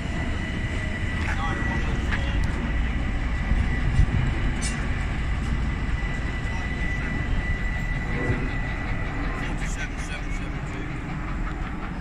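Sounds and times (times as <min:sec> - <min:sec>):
high whine: 0:00.0 - 0:11.4
train rumbling: 0:00.0 - 0:12.0.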